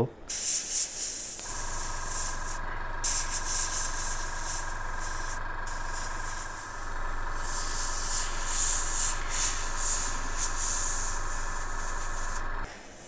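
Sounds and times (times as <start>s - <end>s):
compressor humming: 0.0s - 12.7s
airbrush hissing spurts: 0.3s - 13.0s.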